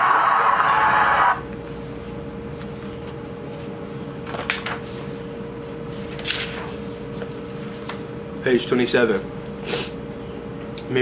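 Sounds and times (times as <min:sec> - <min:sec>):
room hum with mid-pitched tone: 0:00.0 - 0:11.0.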